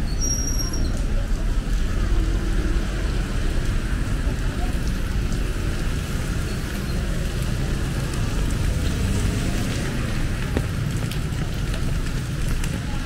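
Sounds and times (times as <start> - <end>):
light rain on wet pavement: 0.0 - 13.0
low rumble of road traffic: 0.0 - 13.0.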